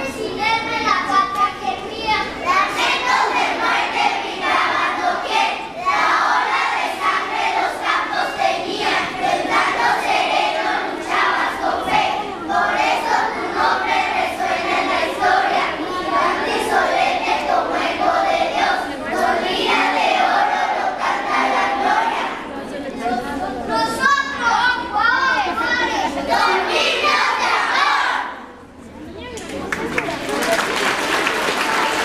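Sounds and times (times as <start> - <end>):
children reciting in unison: 0.0 - 28.6.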